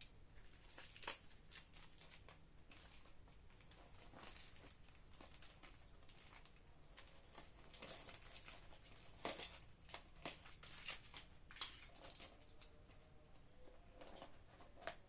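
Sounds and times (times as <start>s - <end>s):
packaging rustling: 0.4s - 13.0s.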